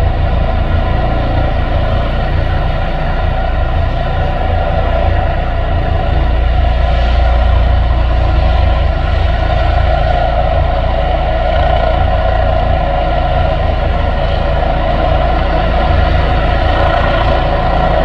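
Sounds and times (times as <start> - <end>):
helicopter turbine whine: 0.0 - 18.0
low rotor rumble: 0.0 - 18.0.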